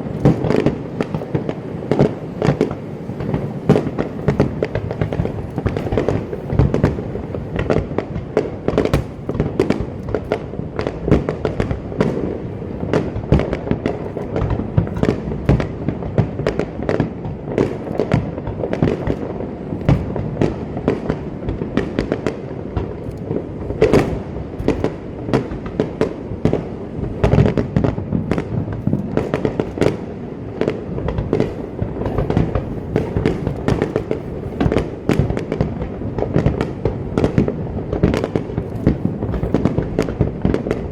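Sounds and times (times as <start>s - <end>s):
fireworks bangs and crackles: 0.0s - 40.9s
heavy fireworks booms: 0.0s - 40.9s.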